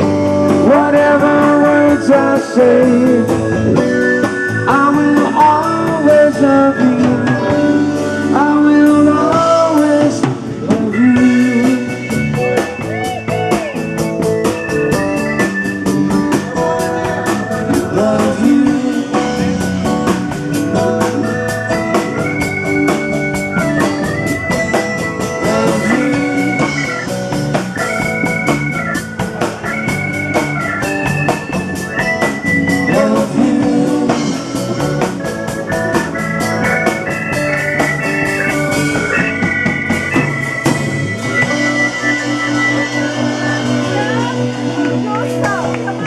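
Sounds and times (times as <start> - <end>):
bass line: 0.0 - 46.0
organ-like keyboard melody: 0.0 - 46.0
steady drum beat: 0.0 - 46.0.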